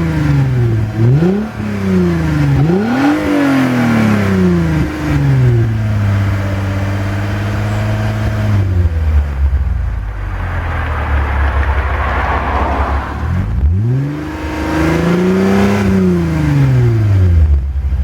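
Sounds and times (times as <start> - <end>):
car engine blipping and idling: 0.0 - 18.0.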